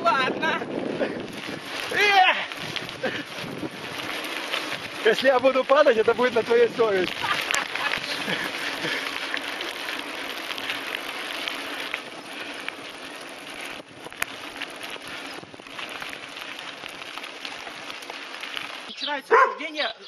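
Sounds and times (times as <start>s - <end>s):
bike tyres on gravel: 0.0s - 20.0s.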